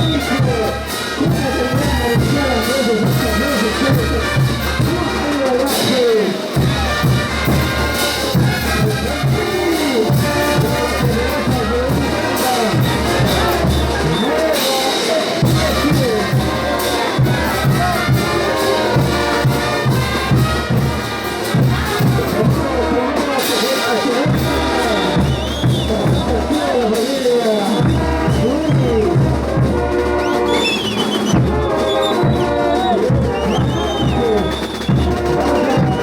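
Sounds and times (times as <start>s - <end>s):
brass band playing: 0.0s - 36.0s
steady drum beat: 0.0s - 36.0s.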